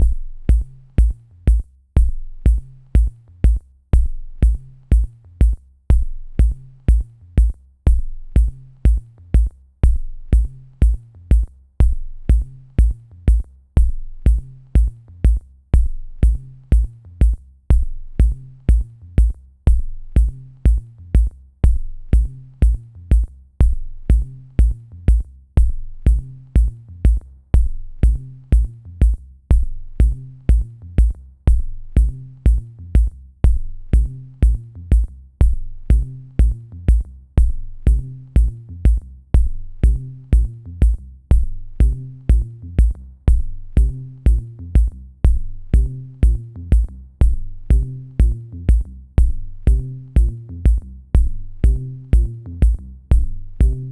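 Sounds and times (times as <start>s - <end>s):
electronic music with drum-machine beat: 0.0s - 53.9s.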